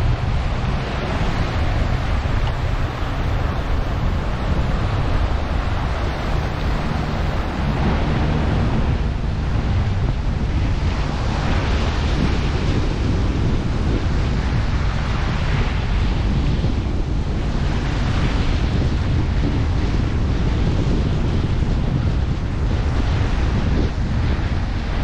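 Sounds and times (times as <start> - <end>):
small waves washing on sand: 0.0 - 25.0
wind buffeting microphone: 0.0 - 25.0.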